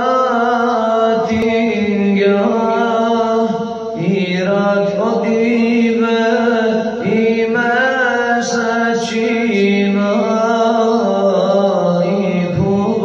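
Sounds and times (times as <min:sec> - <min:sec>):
man singing a devotional hymn: 0:00.0 - 0:13.0.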